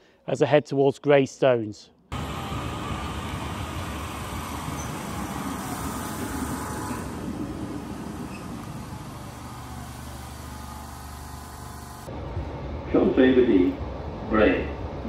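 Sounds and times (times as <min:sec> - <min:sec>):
electric train slowing on rails: 0:02.1 - 0:15.0.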